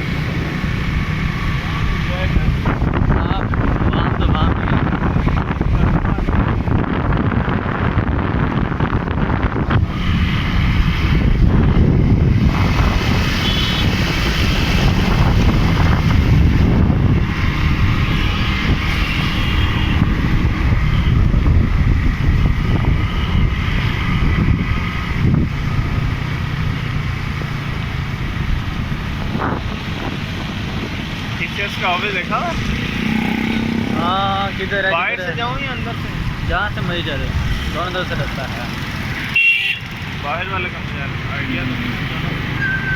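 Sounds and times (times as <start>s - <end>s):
wind buffeting microphone: 0.0s - 34.8s
road and traffic rumble: 0.0s - 42.9s.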